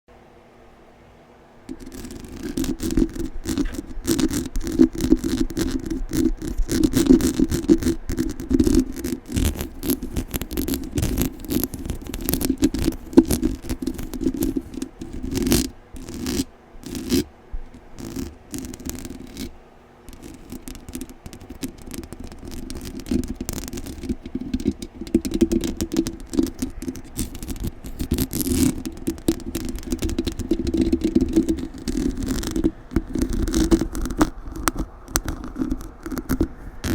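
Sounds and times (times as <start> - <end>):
scratching on a microphone: 1.7 - 36.9.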